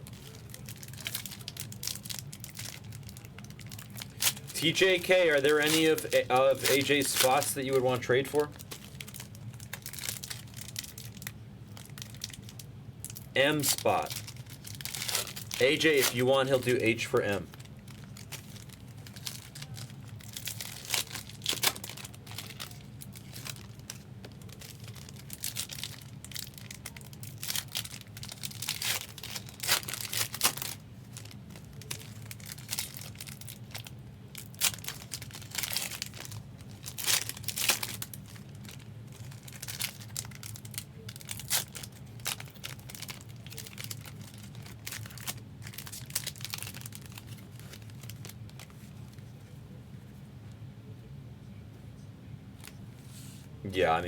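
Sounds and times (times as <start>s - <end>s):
foil wrappers tearing and crinkling: 0.0s - 49.2s
steady low hum: 0.0s - 54.0s.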